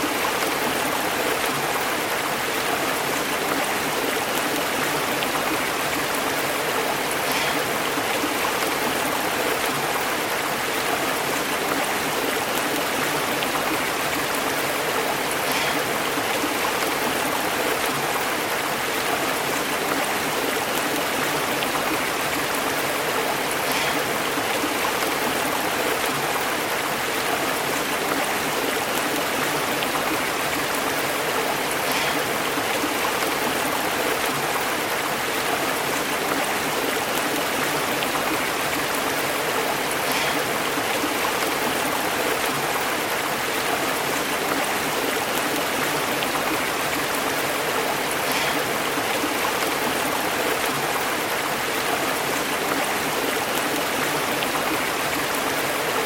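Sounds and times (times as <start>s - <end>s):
stream burbling over rocks: 0.0s - 56.0s.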